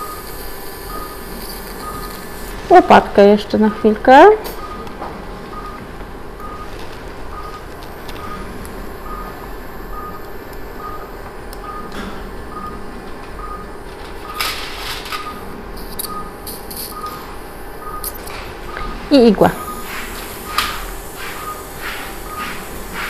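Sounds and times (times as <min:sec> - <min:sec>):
patient monitor pulse beeps: 0:00.0 - 0:02.9, 0:03.6 - 0:23.0
room hum: 0:00.0 - 0:23.0.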